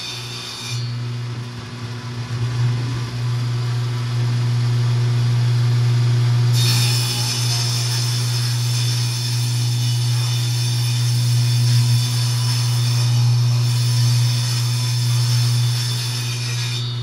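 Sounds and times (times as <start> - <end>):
table saw cutting board: 0.0 - 3.6, 6.5 - 17.0.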